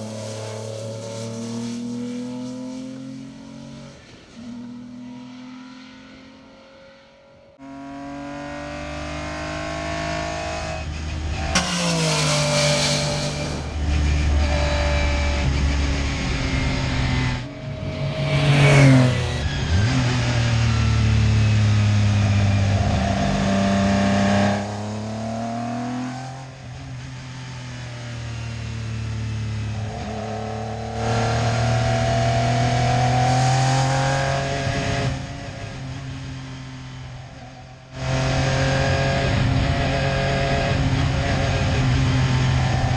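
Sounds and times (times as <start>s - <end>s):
rally car engine revving: 0.0s - 7.0s, 7.6s - 42.9s.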